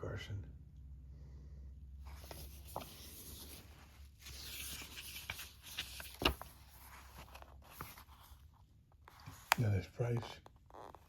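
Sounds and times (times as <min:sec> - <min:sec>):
paper rustling: 0:02.0 - 0:11.0.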